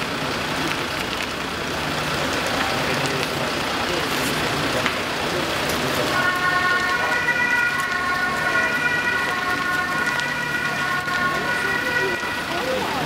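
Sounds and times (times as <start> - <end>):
emergency vehicle siren: 0.0 - 13.0
street noise: 0.0 - 13.0.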